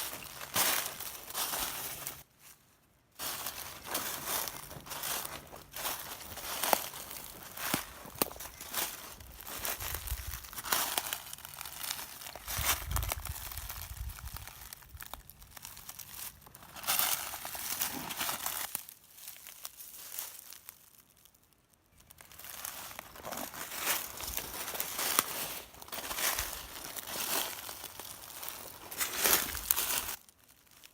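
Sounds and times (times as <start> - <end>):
footsteps crunching through dry leaves: 0.0 - 2.6, 3.2 - 21.2, 22.0 - 30.9.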